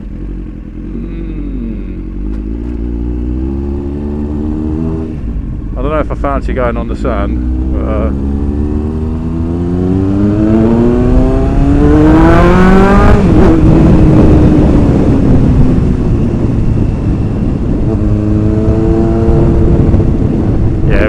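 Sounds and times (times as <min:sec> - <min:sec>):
motorcycle engine accelerating: 0:00.0 - 0:06.2, 0:06.9 - 0:21.0.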